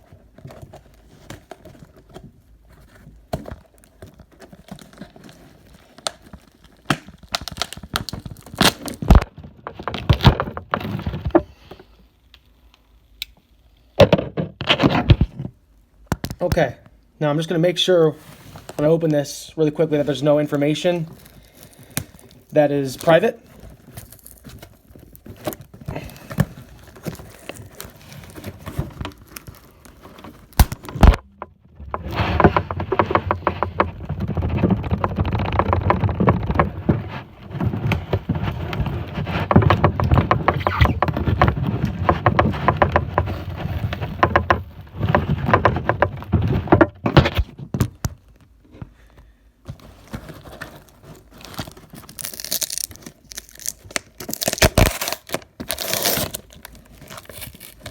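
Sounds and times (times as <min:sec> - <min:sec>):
package rustling and crinkling: 0:00.0 - 0:11.9, 0:18.1 - 0:57.9.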